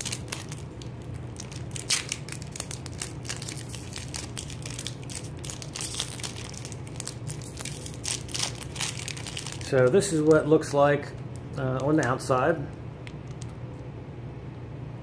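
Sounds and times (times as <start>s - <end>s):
plastic wrapper crinkling: 0.0s - 12.3s, 13.0s - 13.6s.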